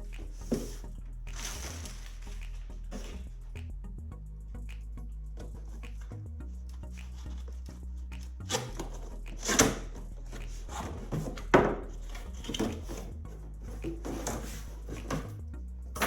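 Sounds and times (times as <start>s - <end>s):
bass line background music: 0.0s - 16.0s.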